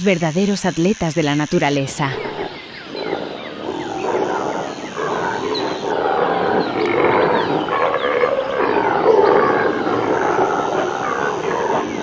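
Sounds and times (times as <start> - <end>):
impala calling: 0.0 - 12.0.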